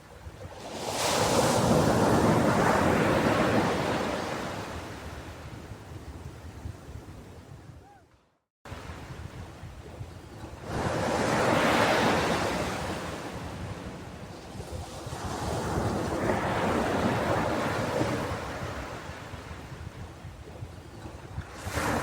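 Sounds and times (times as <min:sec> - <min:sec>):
ocean waves washing onto beach: 0:00.5 - 0:05.6, 0:08.7 - 0:22.0.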